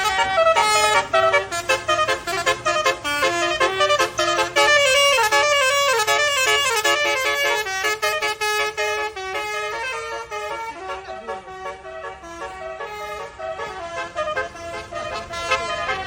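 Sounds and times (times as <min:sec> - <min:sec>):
musical vehicle horn playing: 0:00.0 - 0:16.0.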